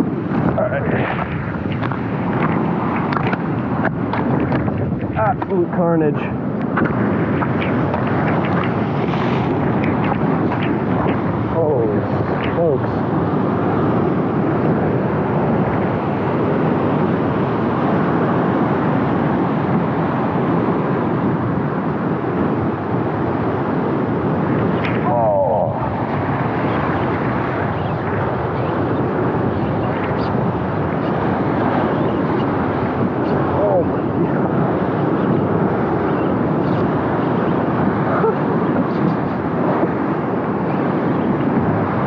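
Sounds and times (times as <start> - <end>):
wind and surf: 0.0 - 42.0.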